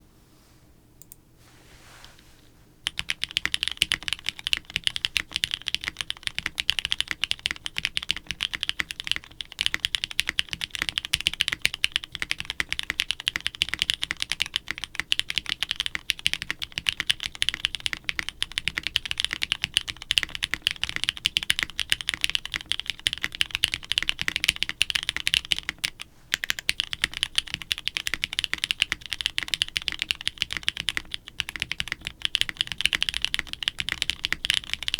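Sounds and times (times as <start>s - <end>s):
mechanical keyboard typing: 2.8s - 34.9s.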